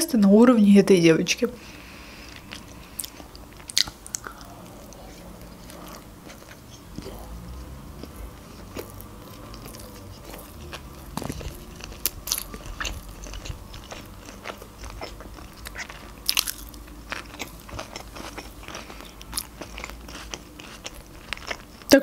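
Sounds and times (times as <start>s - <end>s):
person chewing wetly: 2.2s - 22.0s.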